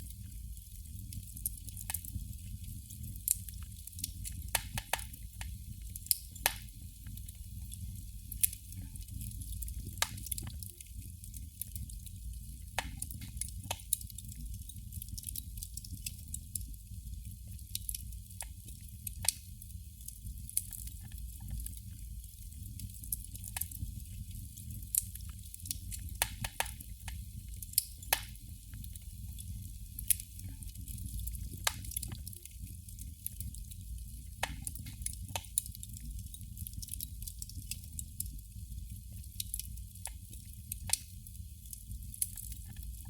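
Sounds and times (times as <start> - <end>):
candle flame crackling: 0.0 - 43.0.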